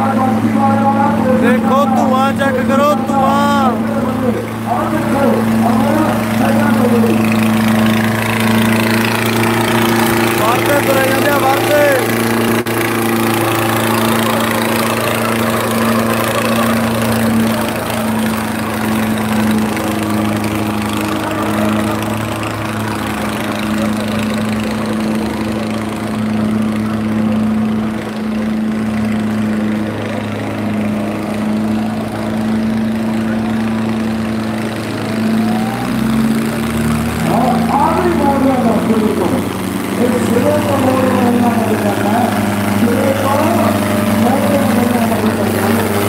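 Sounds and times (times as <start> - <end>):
tractor diesel engines labouring: 0.0 - 46.0.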